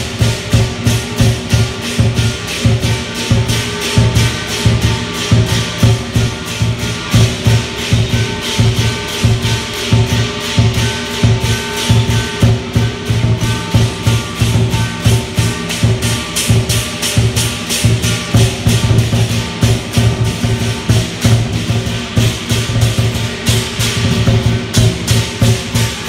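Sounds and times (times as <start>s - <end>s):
cymbal clashes: 0.0s - 26.0s
large drum beating: 0.0s - 26.0s.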